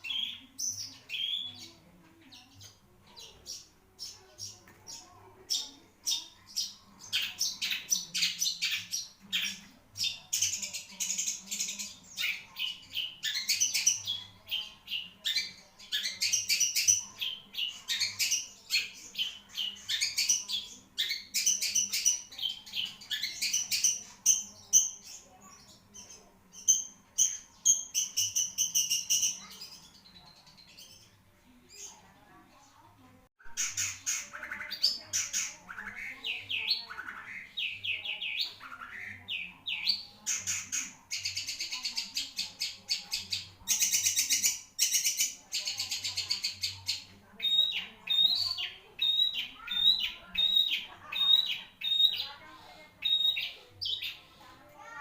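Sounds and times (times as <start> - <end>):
bird singing rapid chirps and trills: 0.0 - 31.9, 33.4 - 52.4, 53.0 - 55.0.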